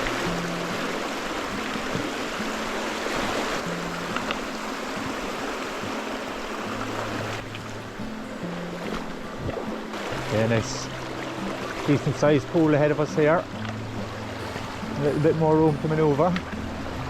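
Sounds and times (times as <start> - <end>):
soft background music: 0.0 - 17.0
water rushing over rocks: 0.0 - 17.0.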